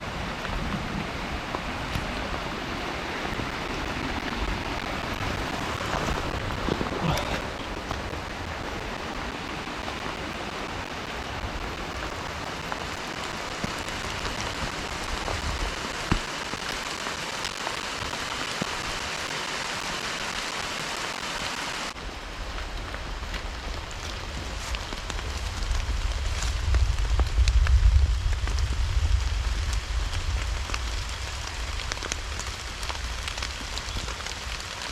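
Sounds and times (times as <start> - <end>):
rain pattering on surfaces: 0.0 - 34.9.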